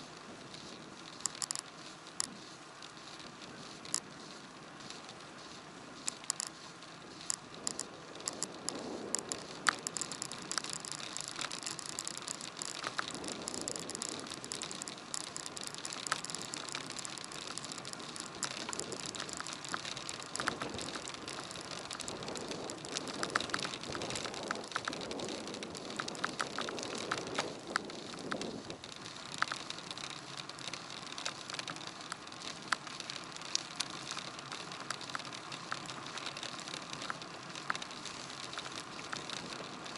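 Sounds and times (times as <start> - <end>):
bicycle clicks and rattles: 0.0 - 39.9
hiss of tyres and wind: 0.0 - 39.9.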